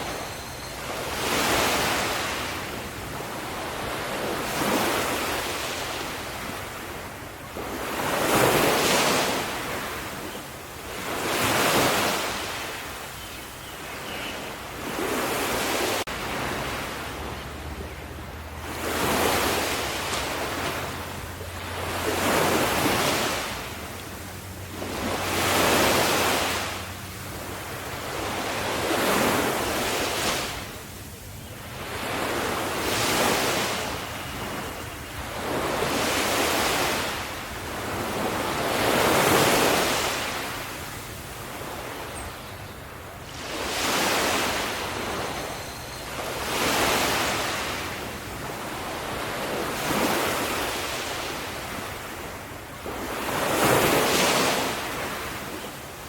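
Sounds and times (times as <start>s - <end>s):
waves breaking on a shore: 0.0s - 56.0s.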